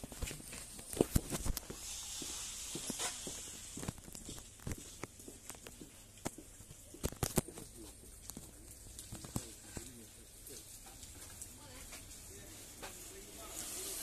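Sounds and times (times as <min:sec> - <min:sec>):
footsteps on wet pavement: 0:00.0 - 0:13.2
faint hiss: 0:00.3 - 0:06.2, 0:06.8 - 0:14.0.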